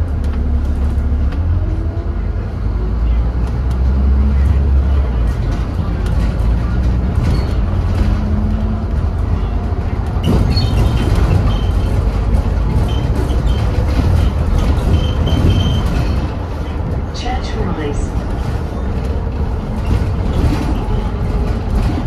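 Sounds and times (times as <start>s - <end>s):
bus diesel engine drone: 0.0s - 22.0s
road rumble: 0.0s - 22.0s.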